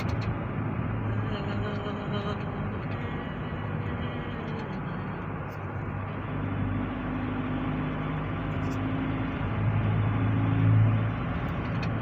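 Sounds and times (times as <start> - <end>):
road and engine drone: 0.0 - 12.0.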